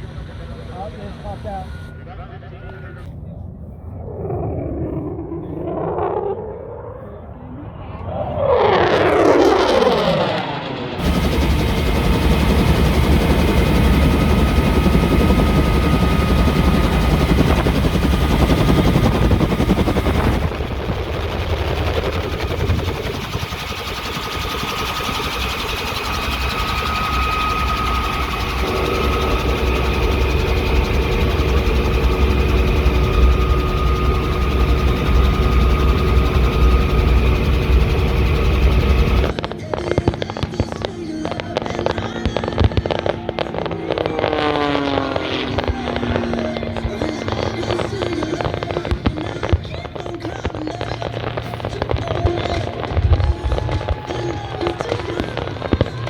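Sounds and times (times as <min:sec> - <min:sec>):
aircraft engines running: 0:00.0 - 0:39.7, 0:40.6 - 0:56.0.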